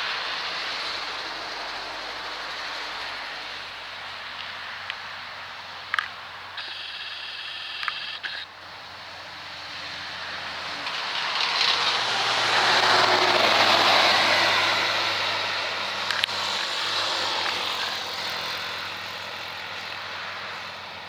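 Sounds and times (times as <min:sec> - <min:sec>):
vehicle passing by: 0:00.0 - 0:05.9, 0:08.7 - 0:21.0.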